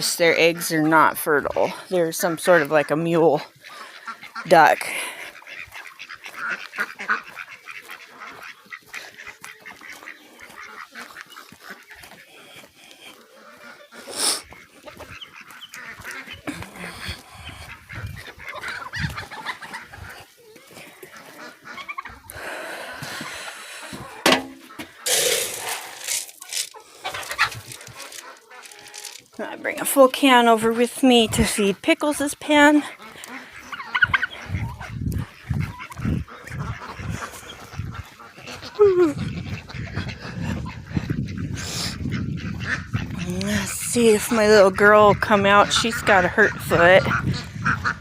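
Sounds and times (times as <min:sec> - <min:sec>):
ducks quacking: 0:00.0 - 0:48.0
fowl honking: 0:00.0 - 0:48.0.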